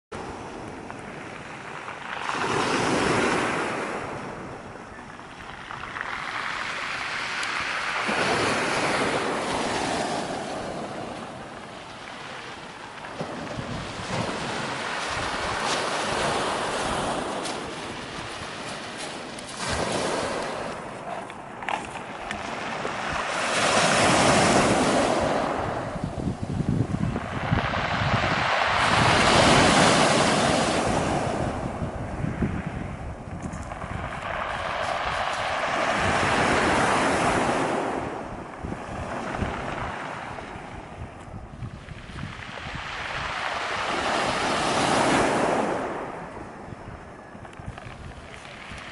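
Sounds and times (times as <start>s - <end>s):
surf washing on pebble beach: 0.2s - 48.9s.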